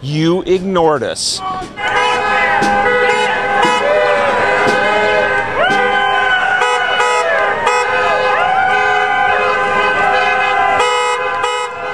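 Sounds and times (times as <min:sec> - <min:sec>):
car horns honking: 0:01.4 - 0:11.9
long gliding horn tone: 0:01.8 - 0:11.9.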